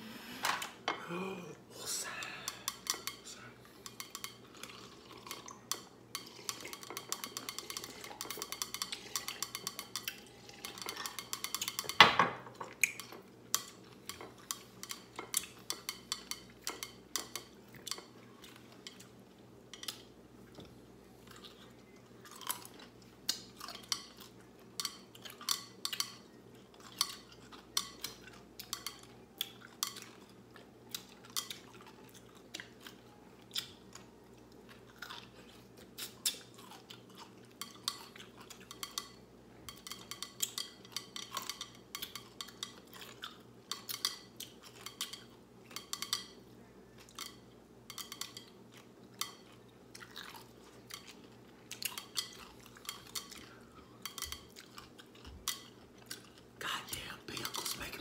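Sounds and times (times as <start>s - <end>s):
people chewing pickles: 2.1s - 11.9s, 12.7s - 58.0s.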